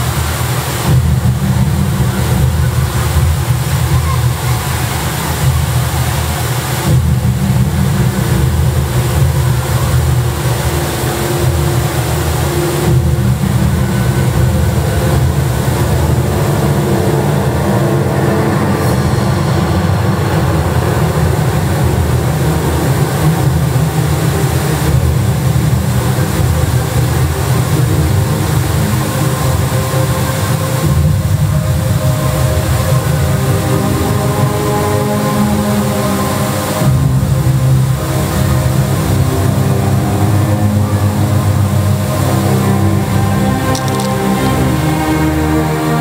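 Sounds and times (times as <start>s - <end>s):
indoor waterfall rushing: 0.0s - 46.0s.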